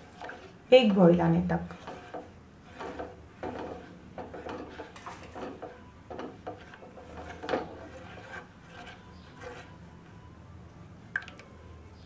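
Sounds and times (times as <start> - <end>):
spatula scraping a saucepan: 0.0 - 10.2.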